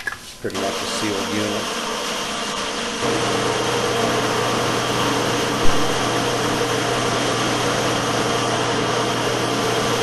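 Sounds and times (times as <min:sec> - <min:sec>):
machinery whirring drone: 0:00.6 - 0:10.0.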